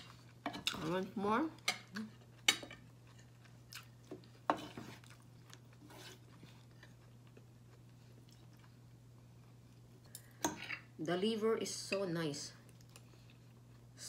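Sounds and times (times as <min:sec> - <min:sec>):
soft chewing: 0:00.0 - 0:00.8, 0:01.6 - 0:10.9, 0:12.6 - 0:14.0
low steady hum: 0:00.0 - 0:14.0.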